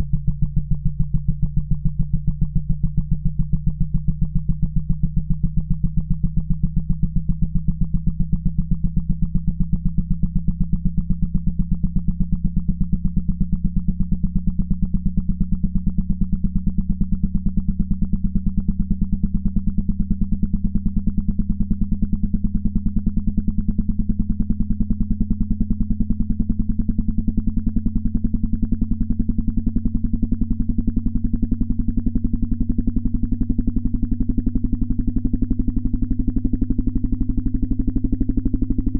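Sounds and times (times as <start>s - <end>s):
low buzzing test tone sweep: 0.0s - 38.9s.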